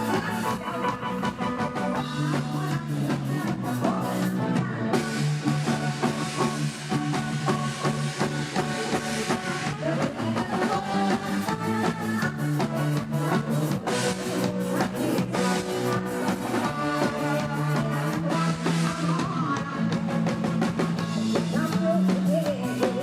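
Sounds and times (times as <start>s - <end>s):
drum kit steady beat: 0.0s - 23.0s
guitar and bass notes: 0.0s - 23.0s.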